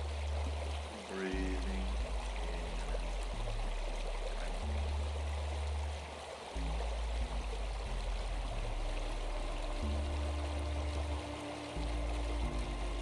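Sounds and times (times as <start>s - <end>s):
flowing water: 0.0s - 13.0s
low synth notes: 0.0s - 13.0s.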